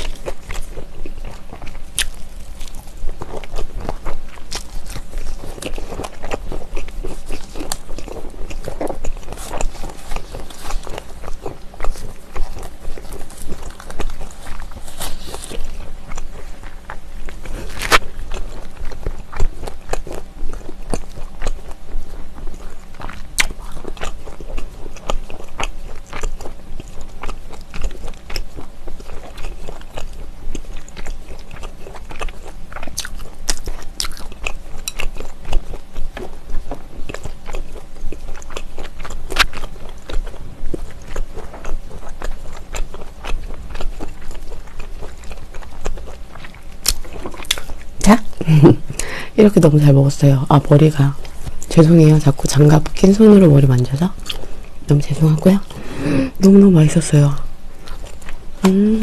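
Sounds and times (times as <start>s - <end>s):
chewing with wet mouth clicks: 0.0s - 49.1s, 49.8s - 55.8s, 57.4s - 58.7s.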